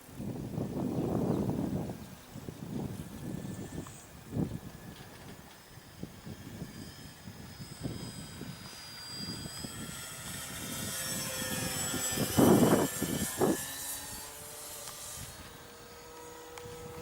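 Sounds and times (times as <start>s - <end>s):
wind buffeting microphone: 0.0s - 17.0s
model plane motor whining: 0.4s - 17.0s.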